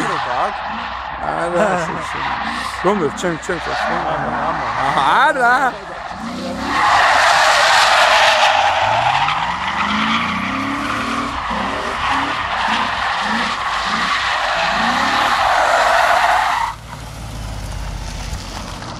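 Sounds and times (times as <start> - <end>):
car engine revving hard: 0.0 - 16.4
tyres squealing: 0.0 - 16.8.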